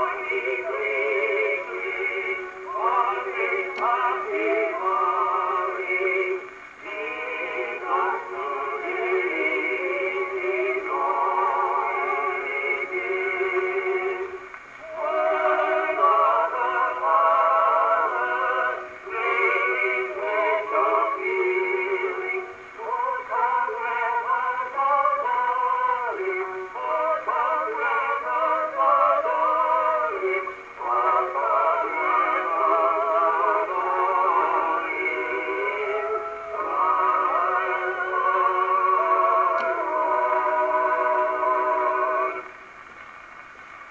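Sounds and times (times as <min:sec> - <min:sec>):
thin boxy phonograph music: 0:00.0 - 0:43.9.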